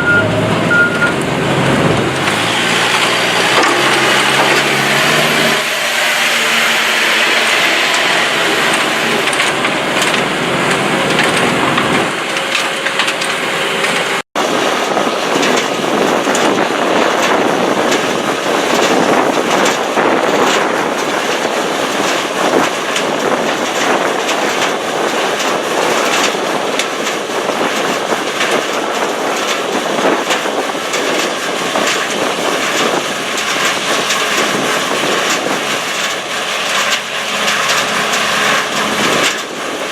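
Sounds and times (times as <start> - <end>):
engine hum: 0.0 - 39.9
material clattering in rotating drum: 0.5 - 39.9.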